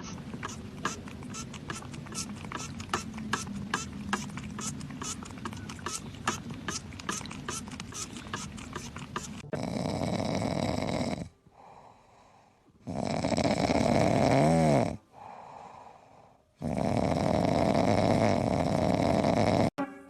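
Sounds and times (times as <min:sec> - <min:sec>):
pet snoring loudly: 0:00.0 - 0:11.4, 0:12.8 - 0:15.4, 0:16.6 - 0:19.8
quiet breaths: 0:00.0 - 0:19.6.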